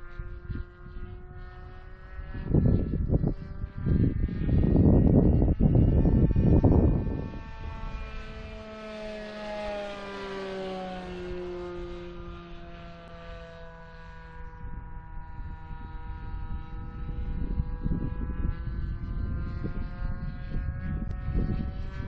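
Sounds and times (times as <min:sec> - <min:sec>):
model plane motor droning: 0:00.0 - 0:22.0.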